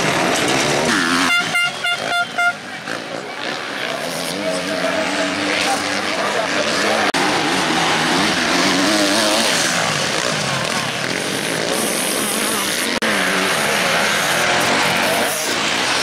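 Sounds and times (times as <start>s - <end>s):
motorbike engines revving: 0.0s - 16.0s.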